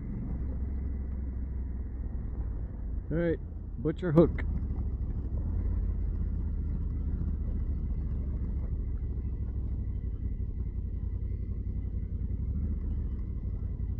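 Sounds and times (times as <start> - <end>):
motorcycle engine rumbling: 0.0 - 13.9.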